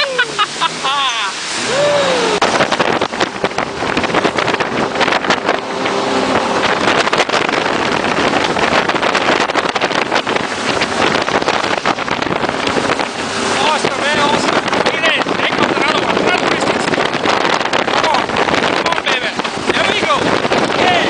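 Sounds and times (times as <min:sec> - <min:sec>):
boat engine running: 0:00.0 - 0:21.0
rushing water: 0:00.0 - 0:21.0
wind buffeting microphone: 0:00.0 - 0:21.0.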